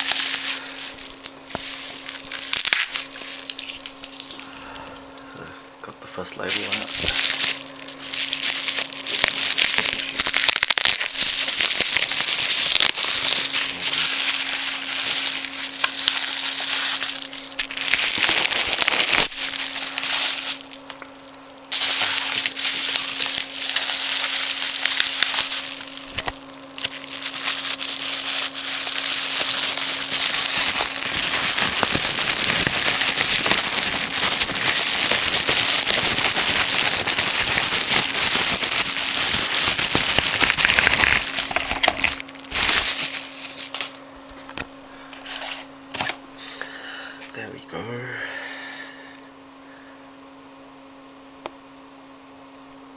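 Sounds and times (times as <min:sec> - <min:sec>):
hands crackling and rustling: 0:00.0 - 0:05.6, 0:06.4 - 0:44.6
faint steady hum: 0:00.0 - 0:52.9.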